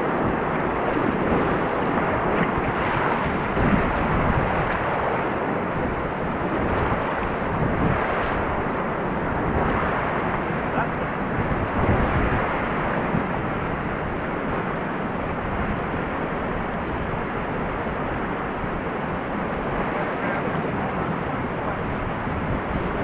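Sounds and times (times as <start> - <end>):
whitewater rapids rushing: 0.0 - 23.0.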